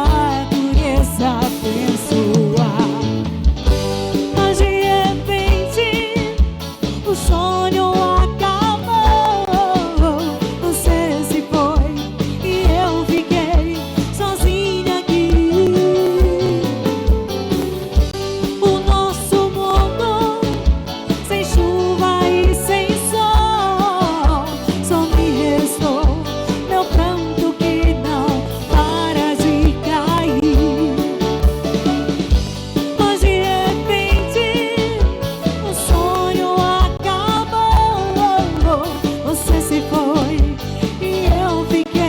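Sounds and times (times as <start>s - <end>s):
drum kit steady beat: 0.0s - 42.0s.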